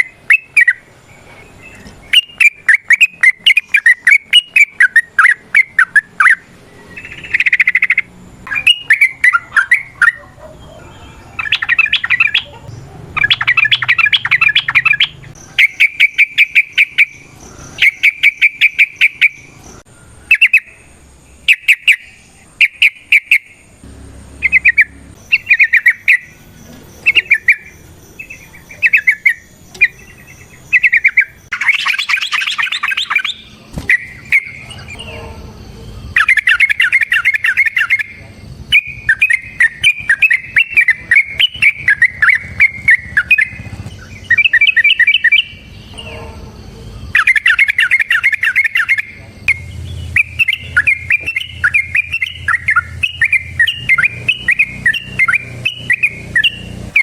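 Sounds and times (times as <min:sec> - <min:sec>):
bird harsh chatter: 0:00.0 - 0:20.8, 0:24.4 - 0:57.0
bird singing rattling notes: 0:00.0 - 0:57.0.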